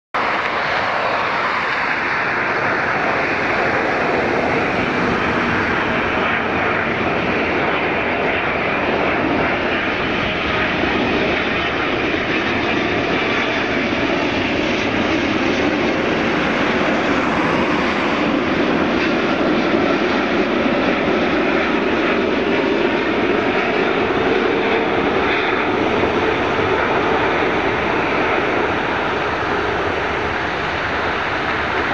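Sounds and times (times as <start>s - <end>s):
airliner jet engines overhead: 0.2s - 31.9s.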